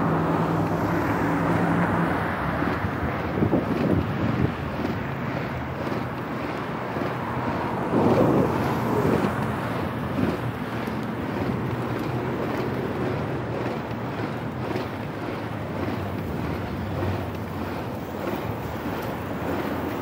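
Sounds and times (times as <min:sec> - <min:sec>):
road traffic: 0:00.0 - 0:20.0
wind rushing over microphone: 0:00.0 - 0:20.0.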